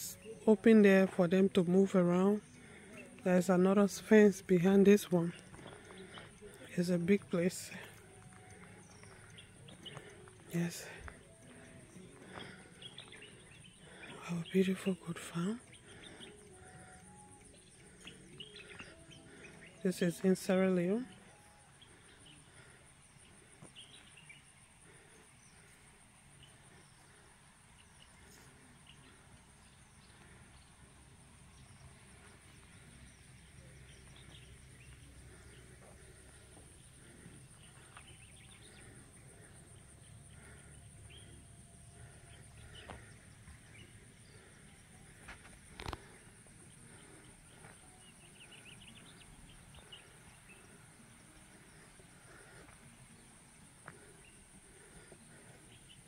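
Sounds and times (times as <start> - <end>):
pulsing insect trill: 0.0 - 56.0.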